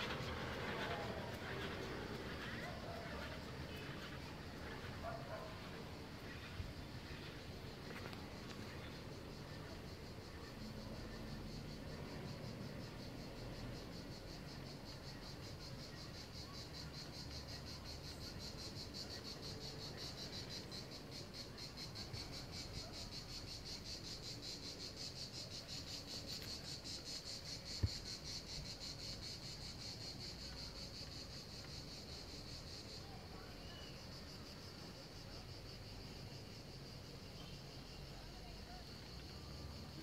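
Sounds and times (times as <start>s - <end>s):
cicadas chirring: 0.0s - 40.0s.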